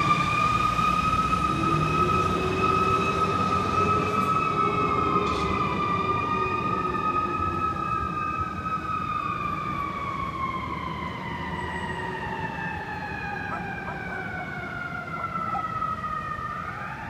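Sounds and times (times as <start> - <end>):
fire truck siren wailing: 0.0 - 17.0
street traffic rumble: 0.0 - 17.0.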